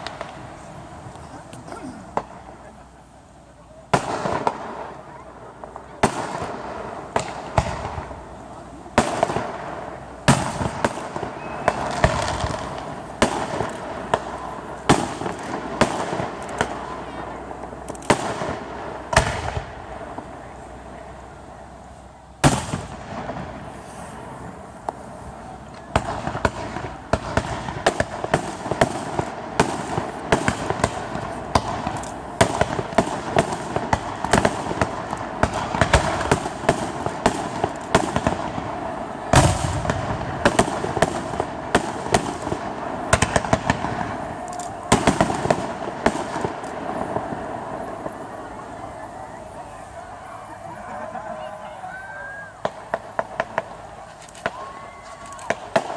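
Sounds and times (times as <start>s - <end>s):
fireworks bursting with crackling: 0.0s - 55.9s.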